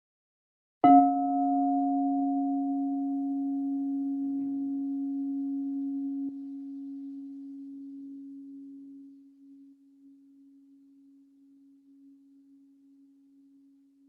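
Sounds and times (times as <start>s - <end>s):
crystal singing bowl ringing: 0.8s - 13.8s.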